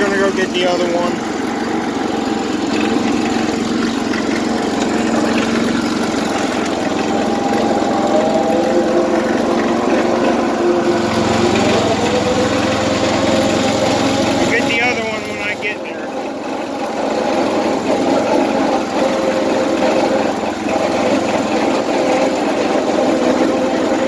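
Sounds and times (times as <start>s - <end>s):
small tractor engine running: 0.0s - 24.0s.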